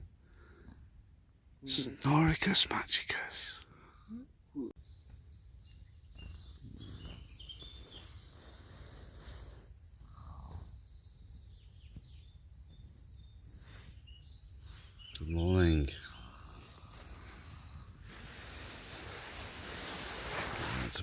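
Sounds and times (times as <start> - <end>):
small birds chirping: 1.6 - 21.0.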